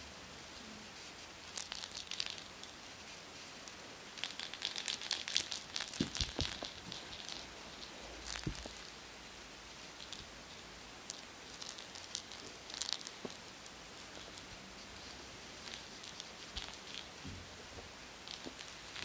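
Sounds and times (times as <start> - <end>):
scratchy rustling and crinkling: 0.4 - 9.0, 9.6 - 19.0.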